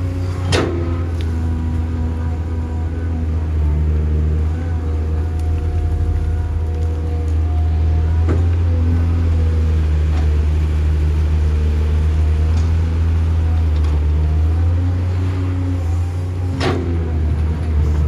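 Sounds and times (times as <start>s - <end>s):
diesel construction machine running: 0.0s - 18.0s.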